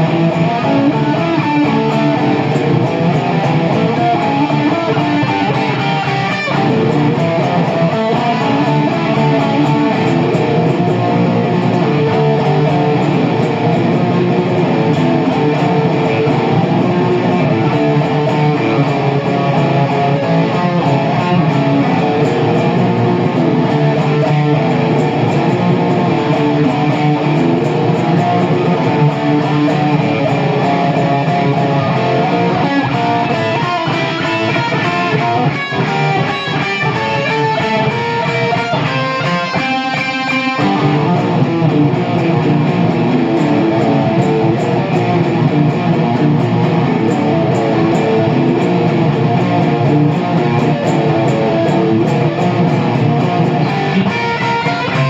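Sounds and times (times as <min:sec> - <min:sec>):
instrumental guitar music: 0:00.0 - 0:55.0.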